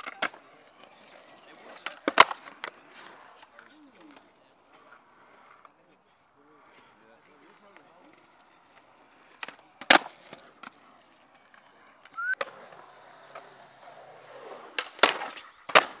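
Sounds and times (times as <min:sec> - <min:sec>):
skateboard clacks: 0:00.0 - 0:05.8, 0:06.6 - 0:16.0
skateboard wheels rolling on concrete: 0:00.0 - 0:16.0.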